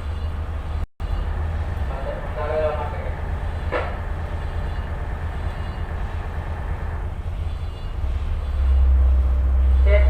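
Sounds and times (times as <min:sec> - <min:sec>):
boat diesel engine rumbling: 0:00.0 - 0:10.0.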